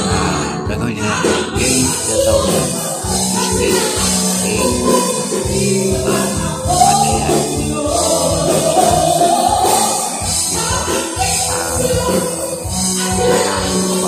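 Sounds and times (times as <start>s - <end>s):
drum kit beat: 0.0s - 14.0s
electric guitar: 0.0s - 14.0s
women singing: 0.0s - 14.0s.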